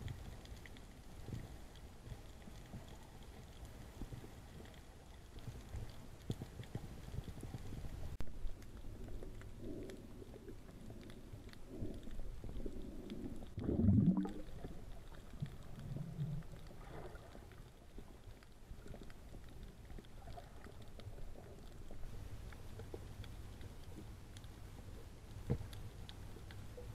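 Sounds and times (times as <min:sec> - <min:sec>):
faint underwater clicks: 0:00.0 - 0:26.9
muffled underwater rumble: 0:00.0 - 0:26.9.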